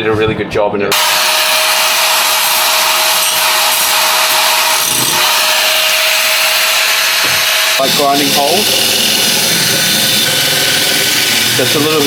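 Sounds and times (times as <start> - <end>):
angle grinder grinding metal: 0.9 - 12.0.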